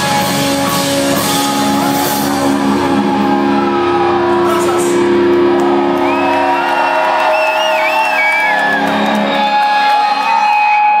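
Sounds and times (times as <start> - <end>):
rock band playing live: 0.0 - 11.0
audience shouts and whoops: 1.8 - 11.0.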